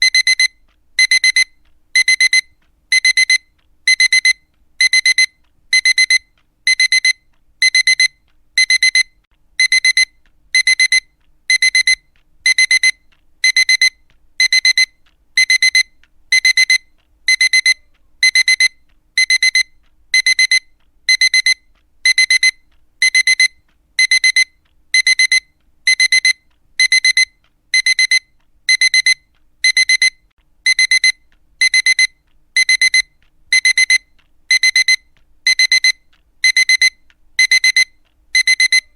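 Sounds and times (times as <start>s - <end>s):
alarm clock beeping: 0.0s - 38.9s.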